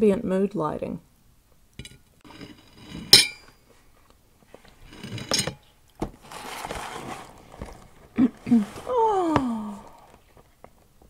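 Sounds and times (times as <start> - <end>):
soft handling noise: 1.8 - 11.0.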